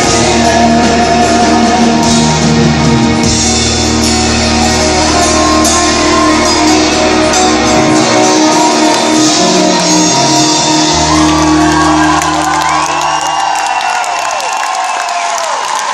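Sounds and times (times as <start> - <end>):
electric guitar: 0.0 - 14.0
live rock band playing: 0.0 - 14.3
bass: 0.0 - 15.6.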